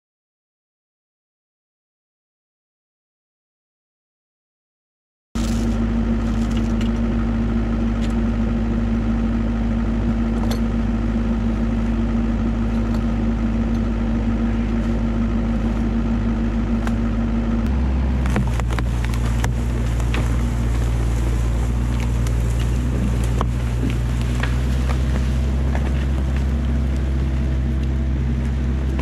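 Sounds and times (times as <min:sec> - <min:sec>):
excavator diesel engine running: 0:05.4 - 0:29.0.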